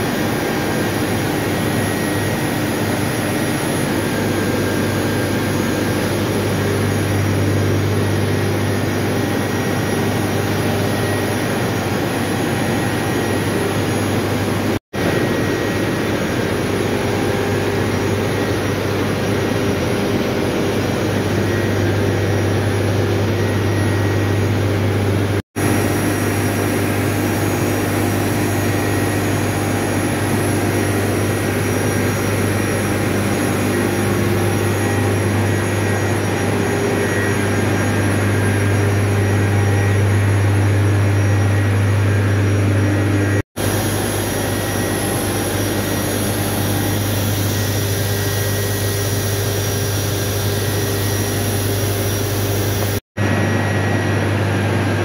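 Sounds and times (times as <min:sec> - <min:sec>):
turbine generator humming: 0:00.0 - 0:55.0.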